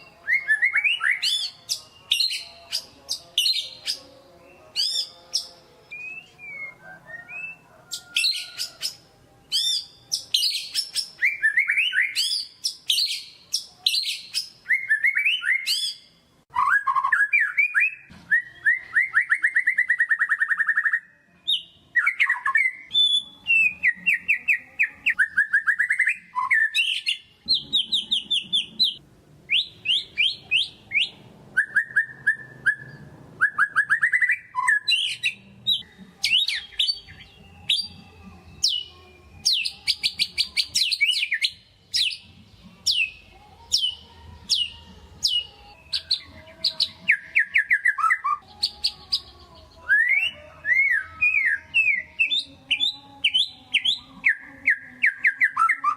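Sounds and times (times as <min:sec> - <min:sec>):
songbird singing trills and whistles: 0:00.0 - 0:55.9.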